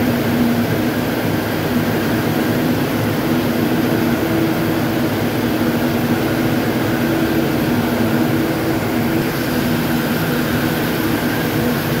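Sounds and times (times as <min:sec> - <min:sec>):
constant low hum: 0:00.0 - 0:12.0
spinning machine drone: 0:00.0 - 0:12.0.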